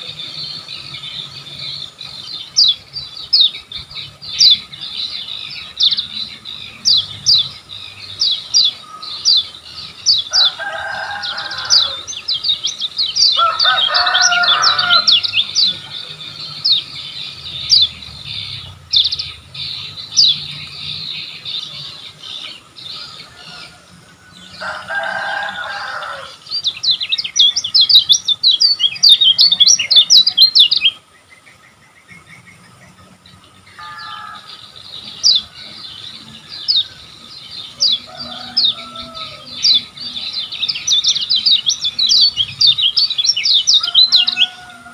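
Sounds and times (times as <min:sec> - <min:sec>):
bird singing high chattering notes: 0:00.0 - 0:44.9.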